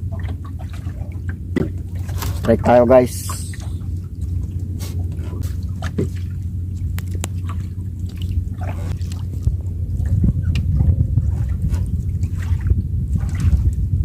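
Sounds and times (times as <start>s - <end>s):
low rumble: 0.0s - 14.0s
water sloshing and lapping: 0.0s - 14.0s.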